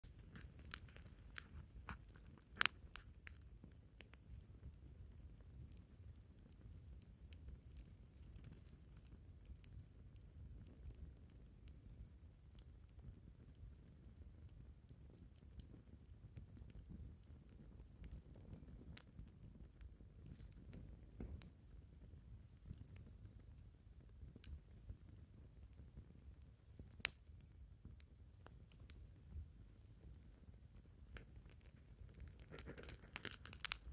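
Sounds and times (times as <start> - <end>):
campfire crackling and popping: 0.0 - 11.8, 12.5 - 21.6, 24.3 - 30.4, 31.0 - 33.9
crickets chirping: 0.0 - 33.9.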